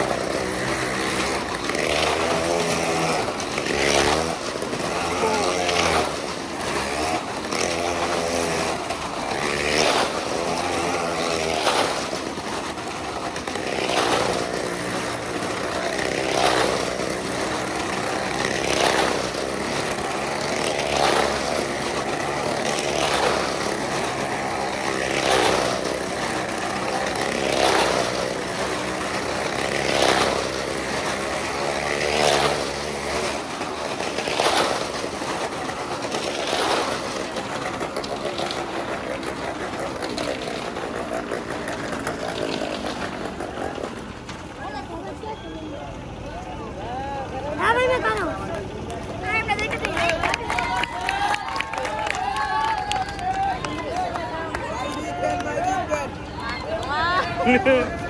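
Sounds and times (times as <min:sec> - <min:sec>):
motorcycle engine passing: 0:00.0 - 0:58.0.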